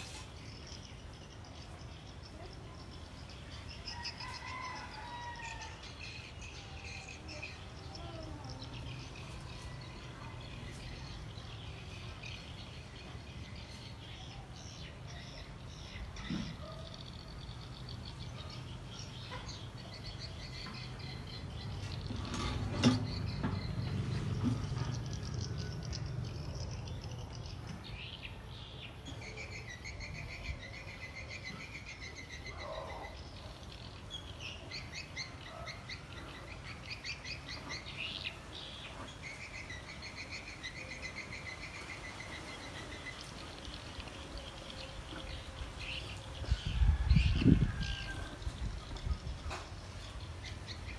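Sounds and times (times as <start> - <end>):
small birds chirping: 5.8 - 50.9.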